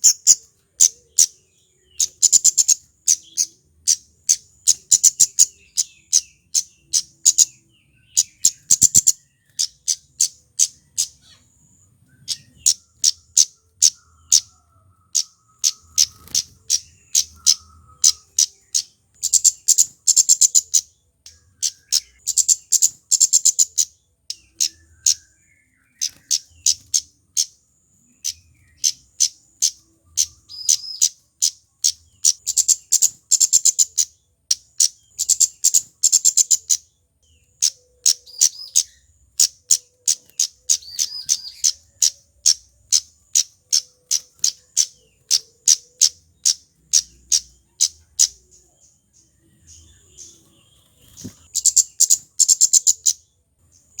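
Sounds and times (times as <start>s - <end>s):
bird singing high ticking notes: 0.0s - 54.0s.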